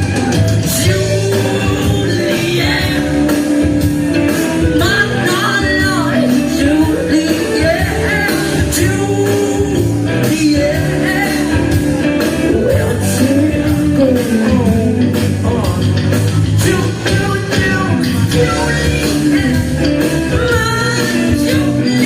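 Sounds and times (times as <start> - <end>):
person singing: 0.0 - 22.0
rock band playing: 0.0 - 22.0.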